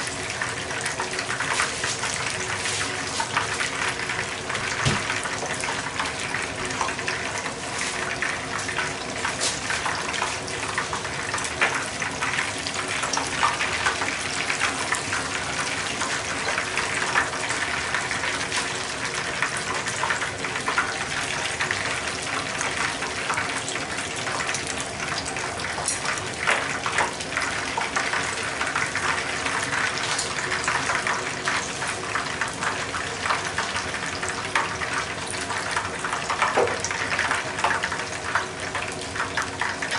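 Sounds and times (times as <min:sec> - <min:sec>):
food deep-frying in hot oil: 0:00.0 - 0:39.9
oil crackling with small pops: 0:00.4 - 0:39.9.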